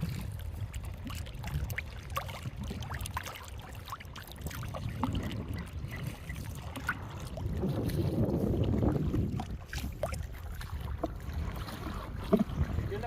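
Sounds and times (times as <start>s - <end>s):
water splashing and dripping: 0.0s - 13.0s.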